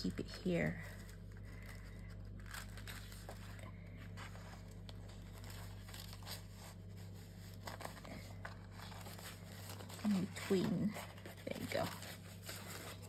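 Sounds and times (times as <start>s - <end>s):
low hum: 0.0s - 13.0s
paper rustling: 0.0s - 13.0s.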